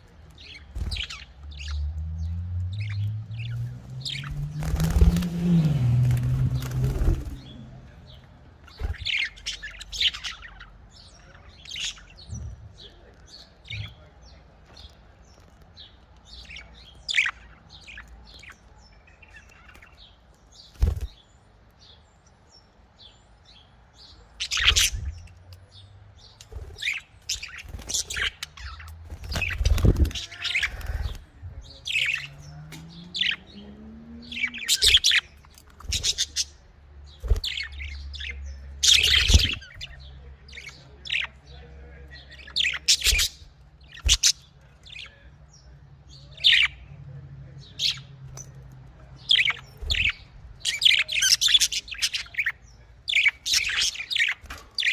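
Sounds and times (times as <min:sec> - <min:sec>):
budgerigars chirping and chattering: 0:00.0 - 0:54.9.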